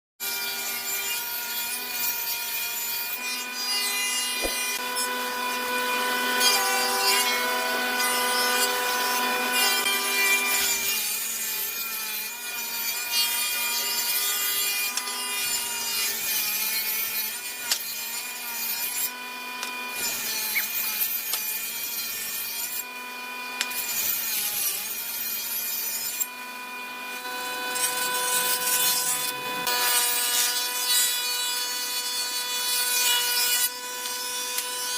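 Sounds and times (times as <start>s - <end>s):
power tool cutting wood: 0.2s - 34.9s.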